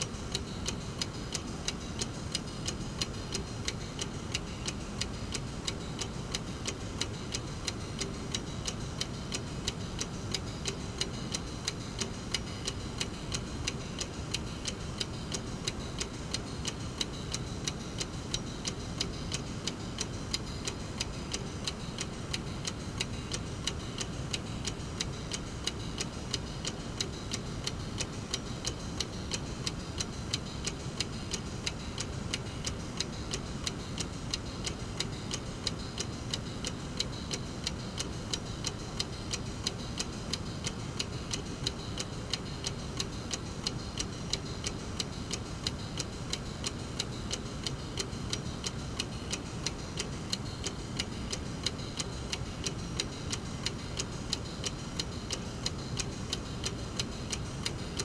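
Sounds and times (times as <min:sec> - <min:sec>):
clock ticking: 0:00.0 - 0:58.0
low background hum: 0:00.0 - 0:58.0.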